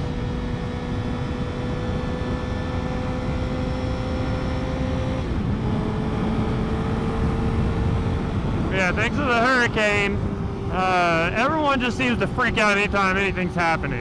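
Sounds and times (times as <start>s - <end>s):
motorcycle engine cruising: 0.0s - 14.0s
wind and road rumble: 0.0s - 14.0s.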